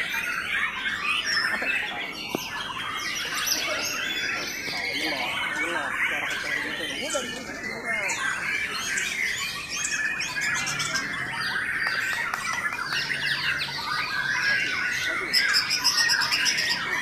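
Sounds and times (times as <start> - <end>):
birds singing in chorus: 0.0 - 17.0.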